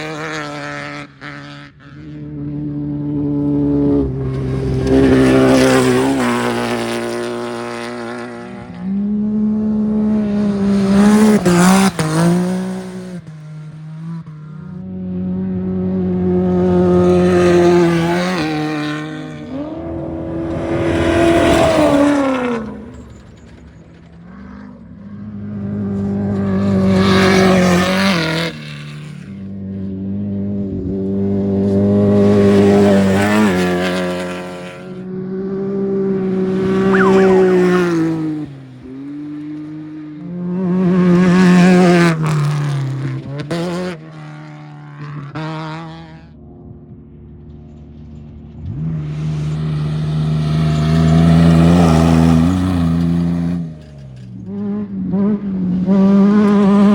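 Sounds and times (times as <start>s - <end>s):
race vehicle engines passing: 0.0s - 56.9s.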